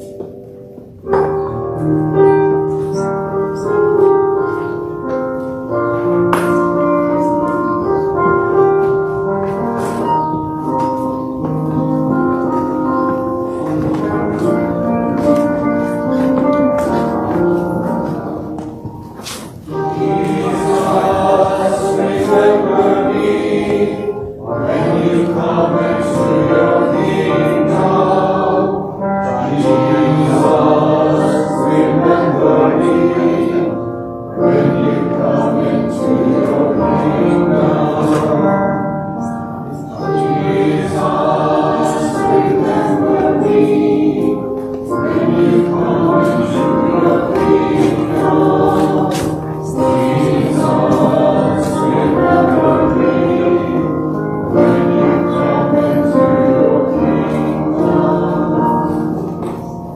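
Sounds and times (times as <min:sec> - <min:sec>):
voices singing a hymn: 0:00.0 - 0:59.9.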